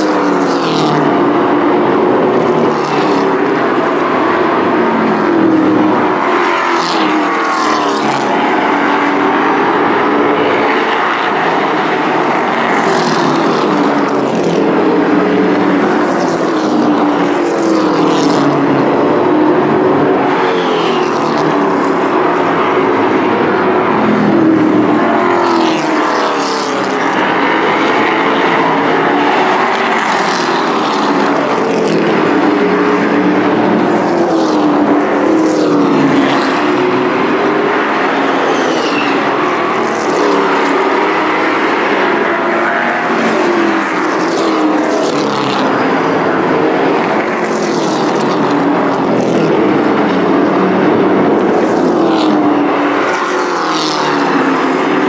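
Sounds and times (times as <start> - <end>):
racing truck engines: 0.0 - 55.0.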